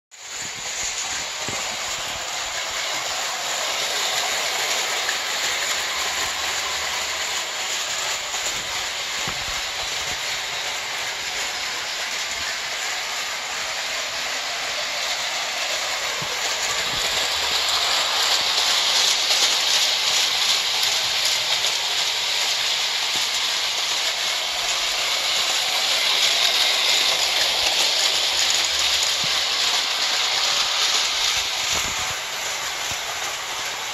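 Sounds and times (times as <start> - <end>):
toy train motor whirring: 0.1 - 33.9
wheels rattling on rails: 0.2 - 33.9.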